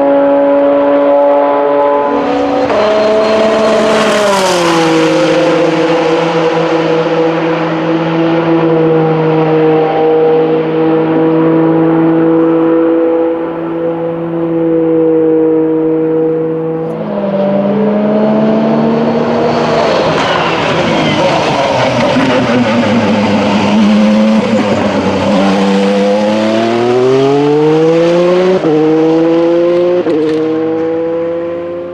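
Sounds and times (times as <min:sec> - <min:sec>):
race car engine accelerating: 0:00.0 - 0:31.9
gear upshifts: 0:01.8 - 0:30.9.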